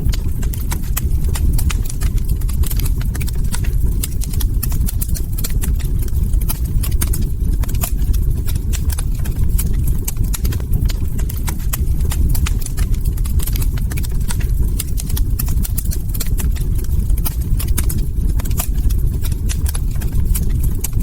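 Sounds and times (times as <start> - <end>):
log fire snapping: 0.0 - 21.0
low rumble of burning wood: 0.0 - 21.0.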